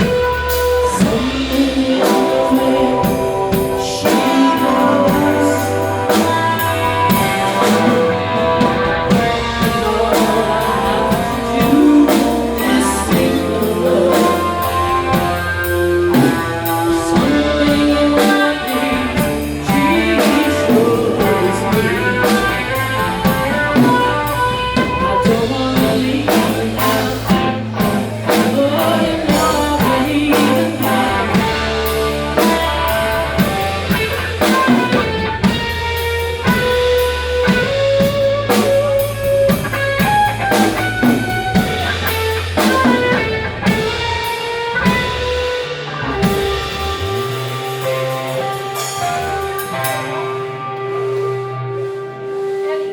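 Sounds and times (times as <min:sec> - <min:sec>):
drum kit: 0:00.0 - 0:52.9
electric guitar: 0:00.0 - 0:52.9
person singing: 0:00.0 - 0:52.9.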